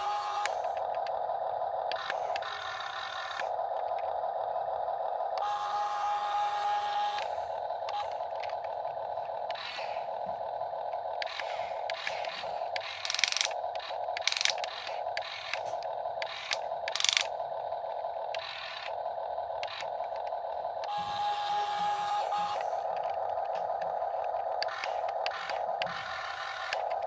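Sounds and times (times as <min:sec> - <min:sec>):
electric motors whining: 0:00.0 - 0:27.0.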